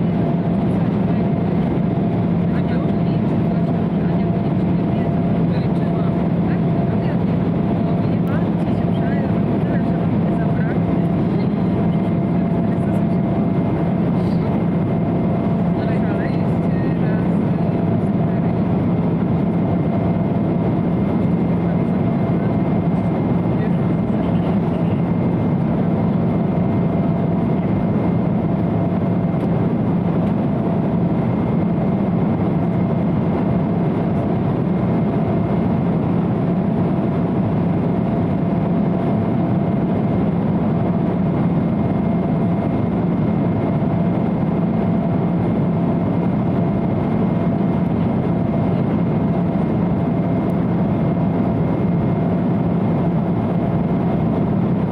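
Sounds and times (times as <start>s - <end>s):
airliner cabin engine drone: 0.0s - 54.9s.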